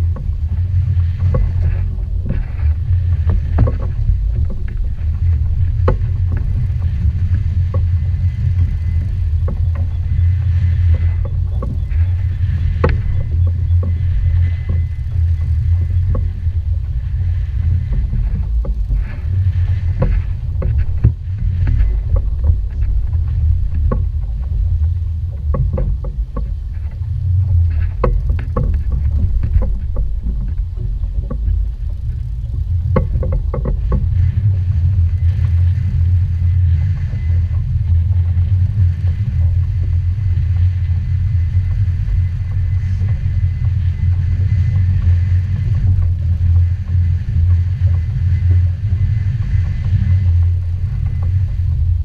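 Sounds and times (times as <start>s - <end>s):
outboard boat rumble: 0.0s - 52.0s.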